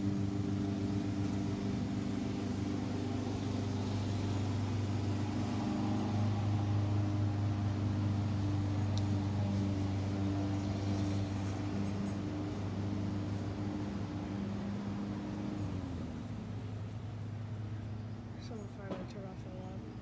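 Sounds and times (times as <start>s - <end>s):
lawn mower engine droning: 0.0s - 20.0s.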